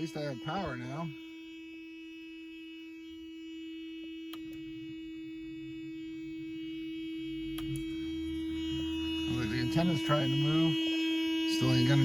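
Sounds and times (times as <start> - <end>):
electric warning buzzer: 0.0 - 12.0
low hum: 2.0 - 12.0.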